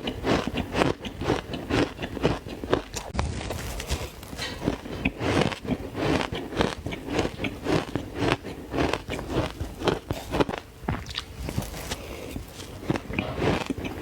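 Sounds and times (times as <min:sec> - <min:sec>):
crunching frozen ice: 0:00.3 - 0:14.0.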